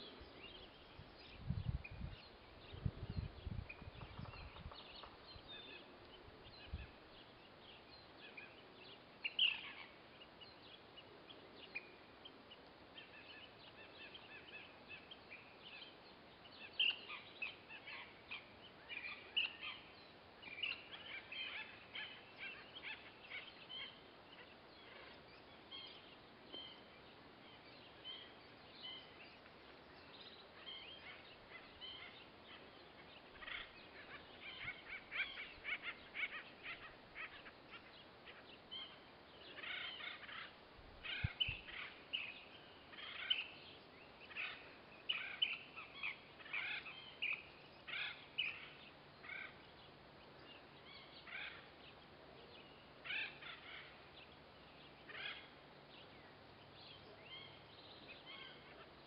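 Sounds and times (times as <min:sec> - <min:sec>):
birds chirping: 0:00.0 - 0:59.0
faint steady hiss: 0:00.0 - 0:59.0.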